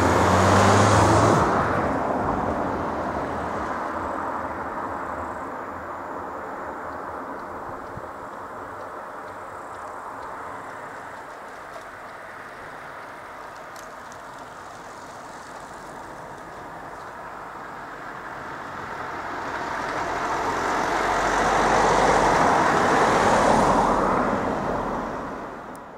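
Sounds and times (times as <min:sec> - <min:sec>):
car engine and tyre noise: 0:00.0 - 0:25.9.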